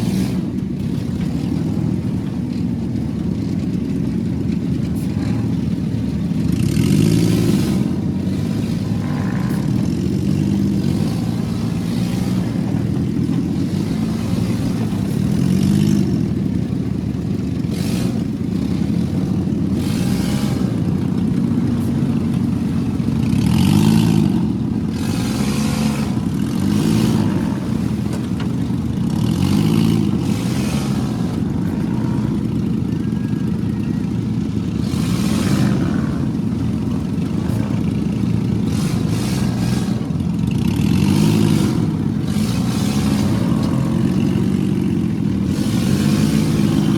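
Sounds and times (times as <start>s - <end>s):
vehicle engine revving: 0.0s - 46.9s.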